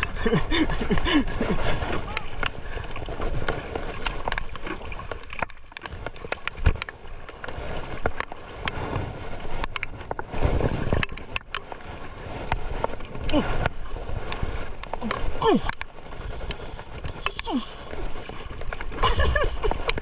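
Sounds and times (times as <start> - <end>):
water slapping boat hull: 0.0 - 20.0.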